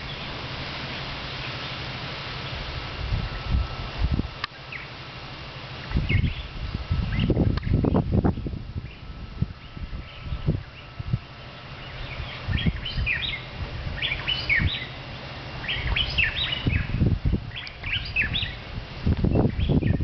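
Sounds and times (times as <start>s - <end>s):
birds singing gliding chirps: 0.0s - 20.0s
low rumbling on microphone: 2.5s - 4.5s, 5.8s - 20.0s.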